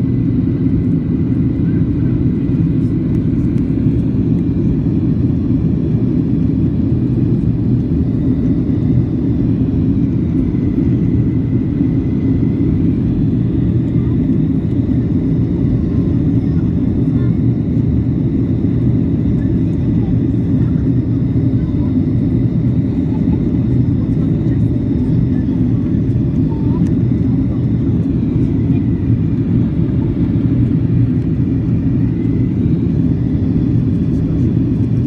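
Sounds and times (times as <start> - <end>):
low rumble of engines and airflow: 0.0 - 35.0.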